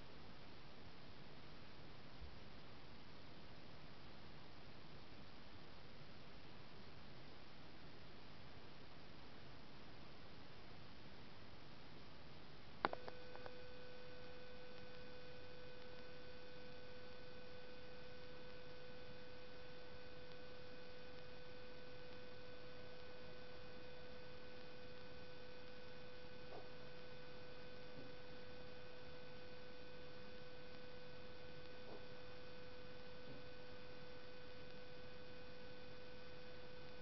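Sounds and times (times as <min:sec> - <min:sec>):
steady pitched hum: 0:00.0 - 0:37.0.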